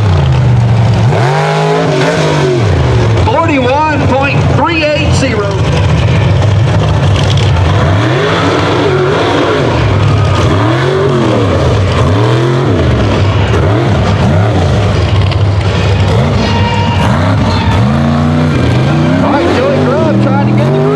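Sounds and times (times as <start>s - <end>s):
truck engine revving hard: 0.0s - 20.9s.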